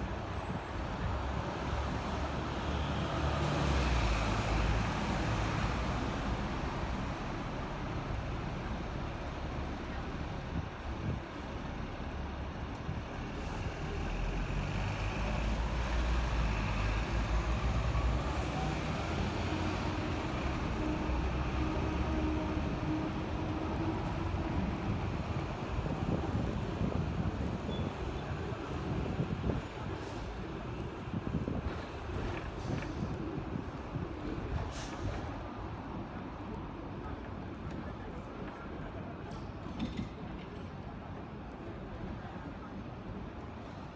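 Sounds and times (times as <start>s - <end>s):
bus and road traffic: 0.0s - 43.9s
tram rumbling on tracks: 0.0s - 43.9s.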